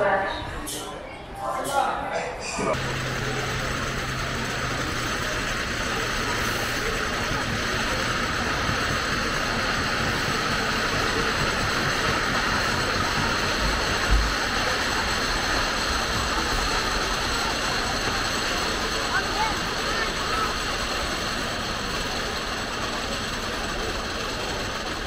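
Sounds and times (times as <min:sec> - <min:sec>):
roller coaster rumbling on track: 0:02.4 - 0:25.0.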